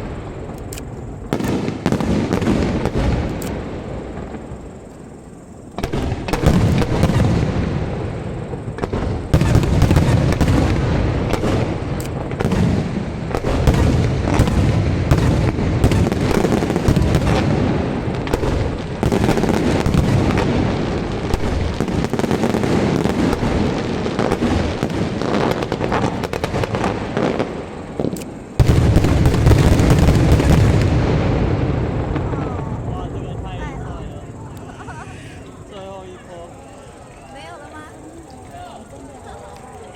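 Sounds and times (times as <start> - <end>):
fireworks booming and crackling: 0.0 - 36.1.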